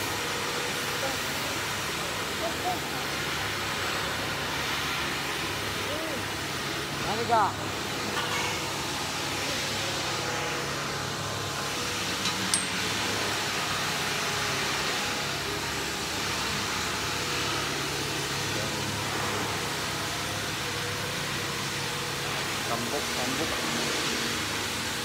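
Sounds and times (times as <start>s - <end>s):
industrial machinery hum: 0.0s - 25.0s.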